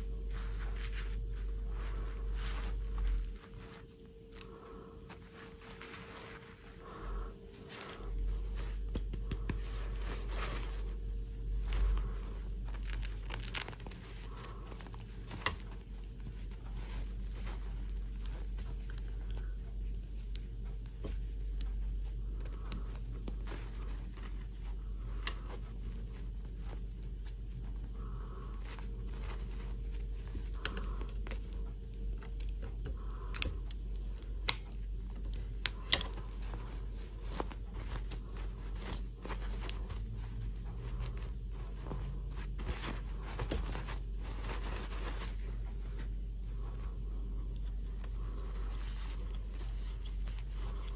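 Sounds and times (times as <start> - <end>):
fabric rustling and crinkling: 0.0 - 50.9
steady low hum: 0.0 - 50.9.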